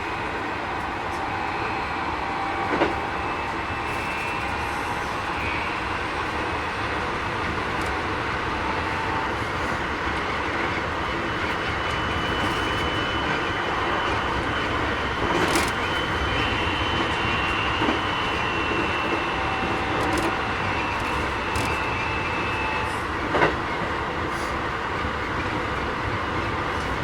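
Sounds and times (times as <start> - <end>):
high electric motor whine: 0.0 - 27.0
train wheels rolling on rails: 0.0 - 27.0.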